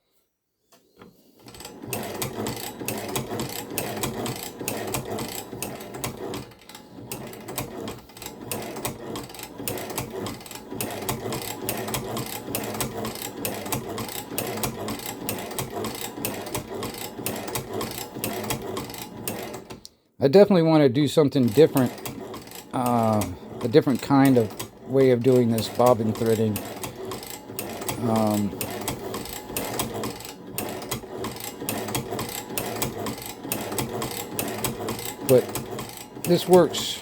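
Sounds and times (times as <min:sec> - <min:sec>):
sewing machine clattering: 0:01.0 - 0:19.9, 0:21.2 - 0:37.0.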